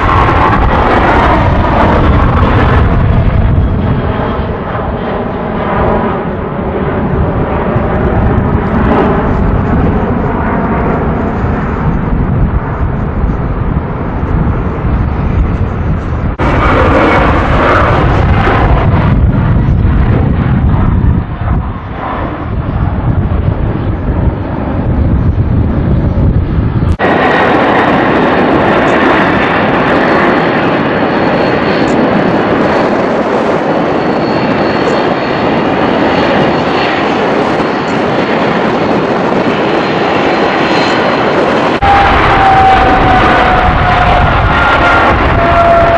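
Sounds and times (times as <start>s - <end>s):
jet engine climbing: 0.0s - 45.9s
wind rumbling on microphone: 0.0s - 45.9s.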